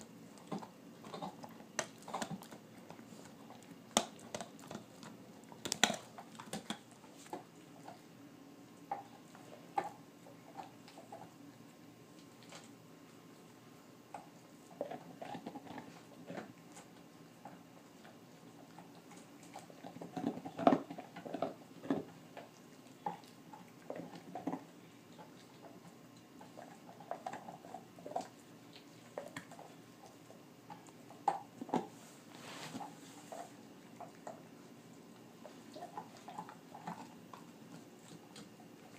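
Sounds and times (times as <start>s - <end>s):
dog gnawing on bone: 0.0s - 32.0s, 32.7s - 38.9s.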